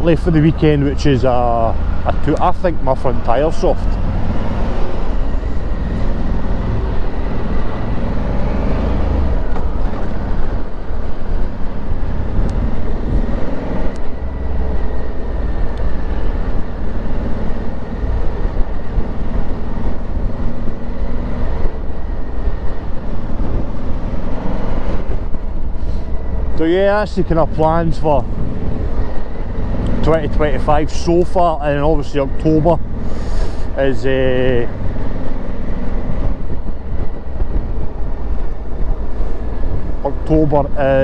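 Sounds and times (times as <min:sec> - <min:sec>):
heavy wind rumble: 0:00.0 - 0:41.0.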